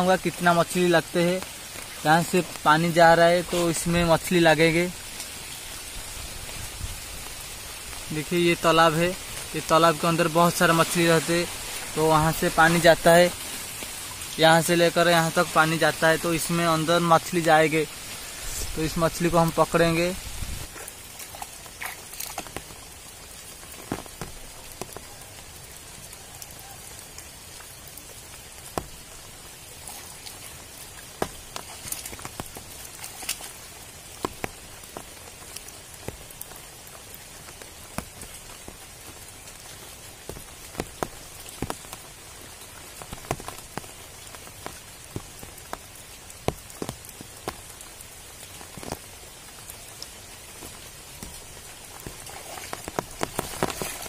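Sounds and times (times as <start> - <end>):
rain on water and leaves: 0.0 - 54.0.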